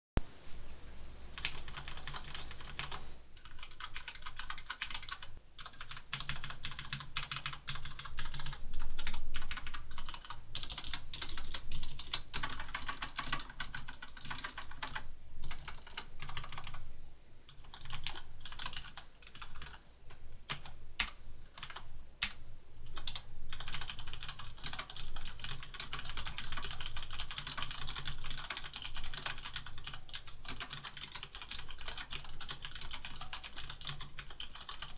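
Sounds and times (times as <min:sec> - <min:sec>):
mechanical keyboard typing: 0:01.4 - 0:16.8, 0:17.5 - 0:19.8, 0:20.5 - 0:34.9.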